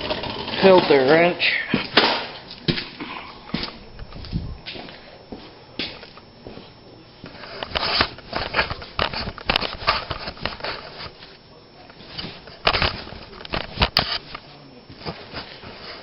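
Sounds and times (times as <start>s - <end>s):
footsteps: 0.6s - 16.0s.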